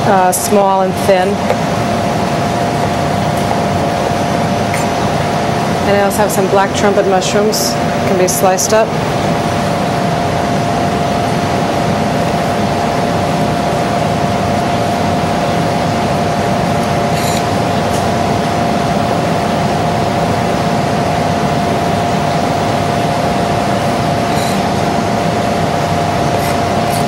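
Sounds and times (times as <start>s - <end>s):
constant hum-like tone: 0.0s - 27.0s
steady loud hiss: 0.0s - 27.0s.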